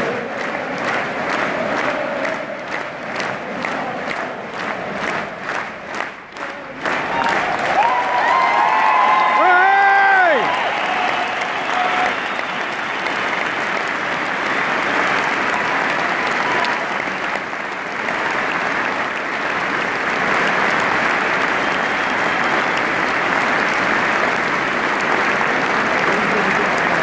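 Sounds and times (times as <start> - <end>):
crowd applauding: 0.0 - 27.0.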